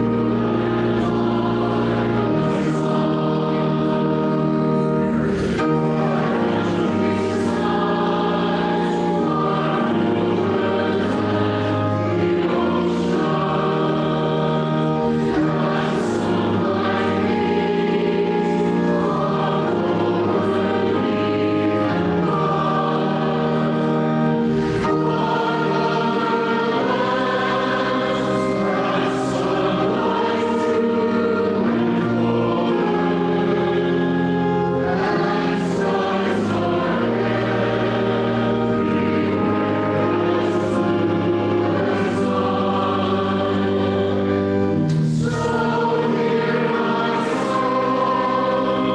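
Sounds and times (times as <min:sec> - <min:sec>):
congregation singing a hymn: 0:00.0 - 0:48.9.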